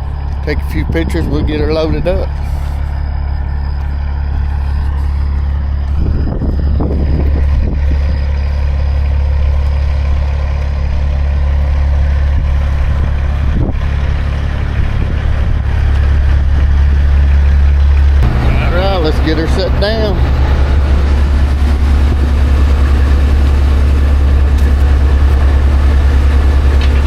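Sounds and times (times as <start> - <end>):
truck diesel engine idling: 0.0 - 27.0.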